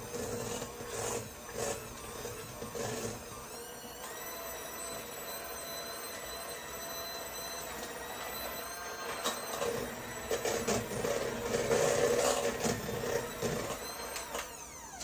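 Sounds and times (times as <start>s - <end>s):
electric hand mixer whine: 0.0s - 15.0s.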